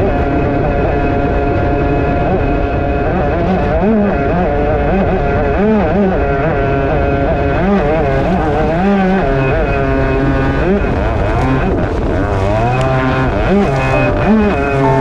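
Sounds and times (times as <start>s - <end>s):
motorised surfboard engine revving: 0.0s - 15.0s.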